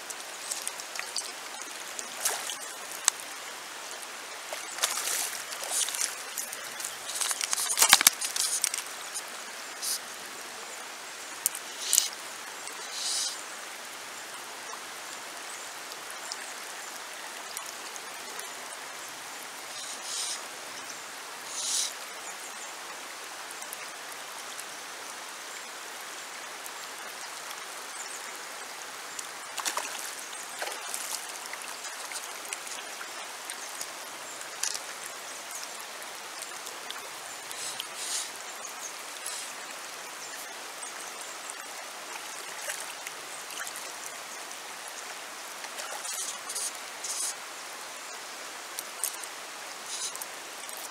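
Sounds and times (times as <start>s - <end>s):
river running over stones: 0.0s - 50.9s.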